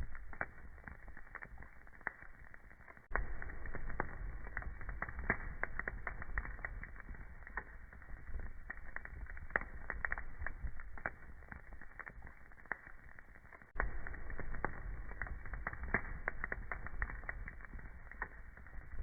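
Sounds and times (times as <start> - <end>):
low steady fire rumble: 0.0 - 19.0
wood fire crackling and popping: 0.0 - 19.0.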